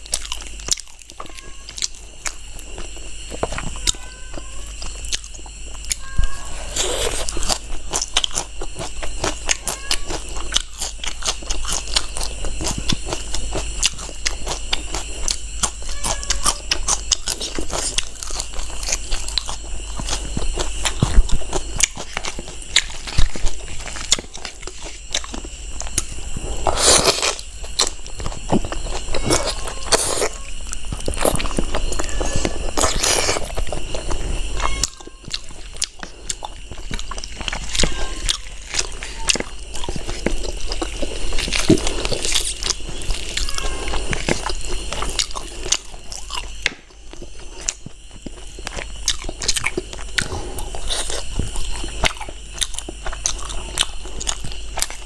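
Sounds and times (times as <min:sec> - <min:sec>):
close biting and chewing: 0:00.0 - 0:04.0, 0:04.8 - 0:06.0, 0:06.6 - 0:55.0.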